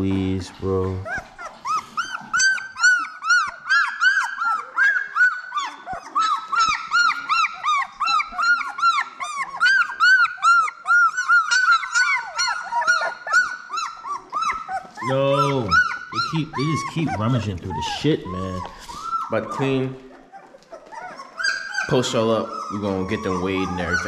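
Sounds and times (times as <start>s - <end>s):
puppies crying and squealing: 0.0s - 24.0s.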